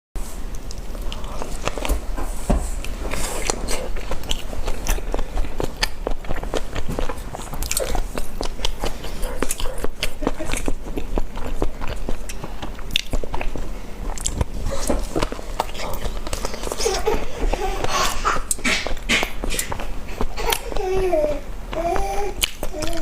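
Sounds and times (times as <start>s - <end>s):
boy chewing crunchy food: 0.3s - 23.0s.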